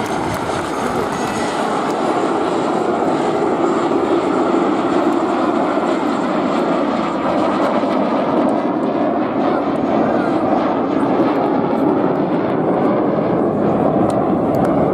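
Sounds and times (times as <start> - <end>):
jet aircraft engine noise: 0.0 - 14.9.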